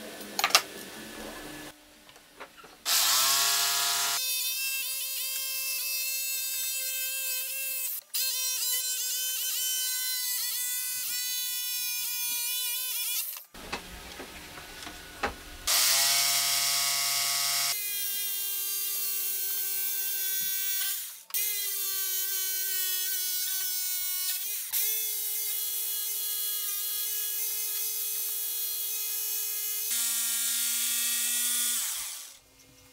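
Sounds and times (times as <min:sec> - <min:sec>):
electric jigsaw cutting wood: 0:02.8 - 0:13.6, 0:15.2 - 0:32.4.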